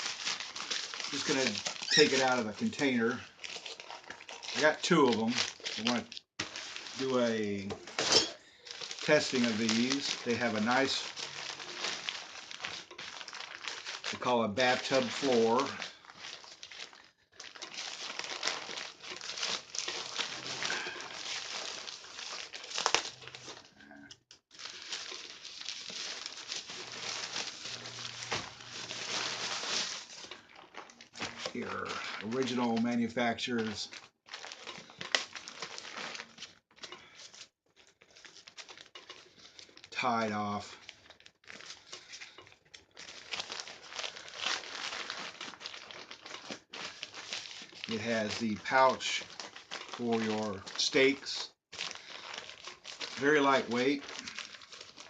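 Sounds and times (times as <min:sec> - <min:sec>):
tent wrapping crinkling: 0:00.0 - 0:23.7, 0:24.5 - 0:55.0.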